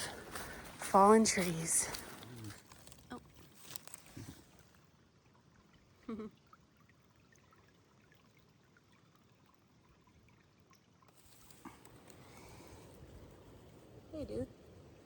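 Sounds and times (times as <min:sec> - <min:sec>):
small stream trickling: 0:00.0 - 0:15.0.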